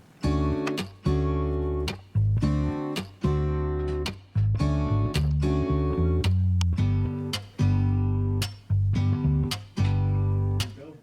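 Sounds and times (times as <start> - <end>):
strummed guitar chords: 0.2 - 10.9.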